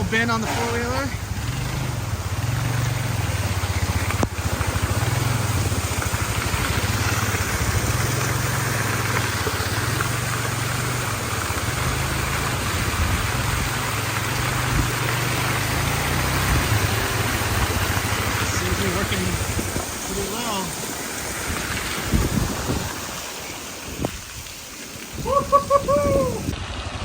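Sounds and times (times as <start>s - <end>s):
atv engine idling low: 0.0s - 23.0s.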